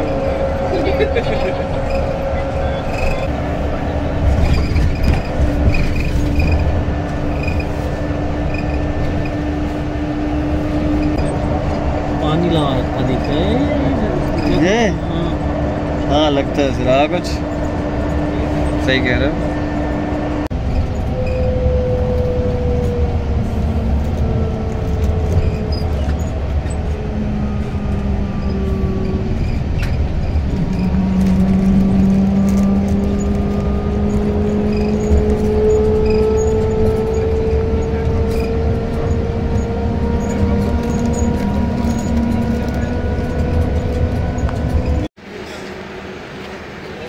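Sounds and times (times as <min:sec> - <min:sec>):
low road rumble: 0:00.0 - 0:47.0.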